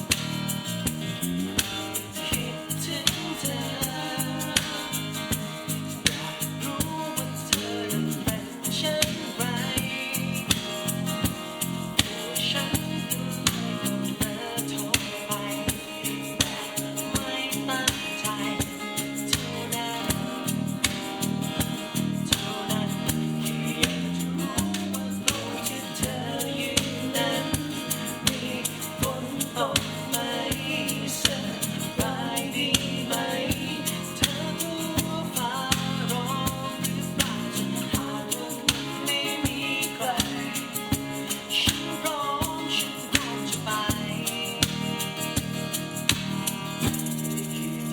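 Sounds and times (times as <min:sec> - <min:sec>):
band playing pop song: 0:00.9 - 0:47.9
person singing: 0:02.0 - 0:05.4, 0:06.0 - 0:11.0, 0:12.0 - 0:21.3, 0:22.2 - 0:45.4.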